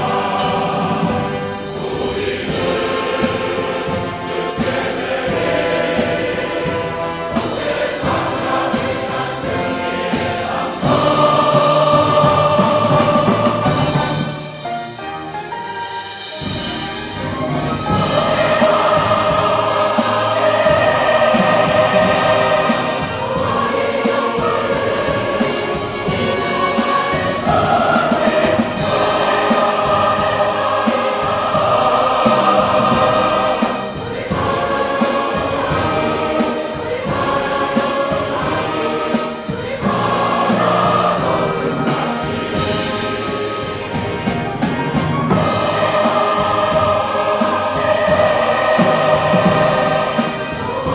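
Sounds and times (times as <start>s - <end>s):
choir singing: 0.0s - 50.9s
instrumental accompaniment: 0.0s - 50.9s.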